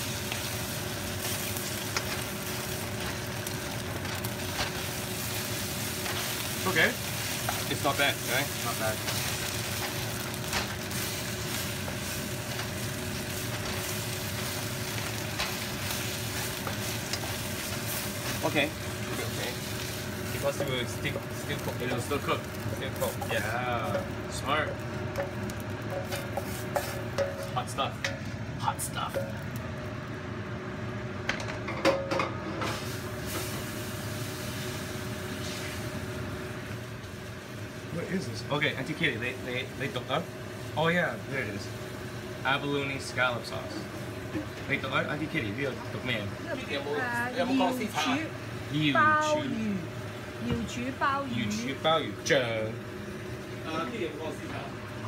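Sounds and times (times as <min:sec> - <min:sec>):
hot oil sizzling in a wok: 0:00.0 - 0:55.0.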